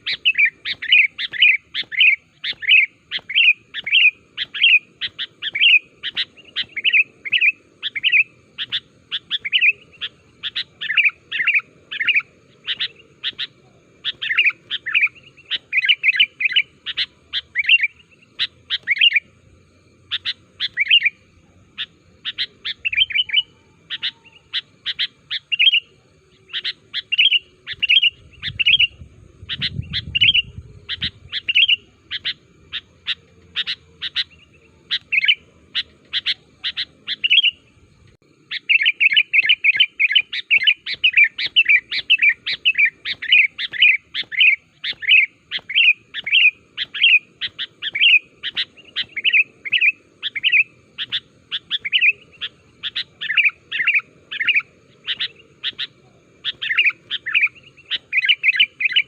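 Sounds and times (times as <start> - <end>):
bird chirping rapidly: 0.0 - 19.4, 20.0 - 21.2, 21.8 - 37.8, 38.4 - 59.0.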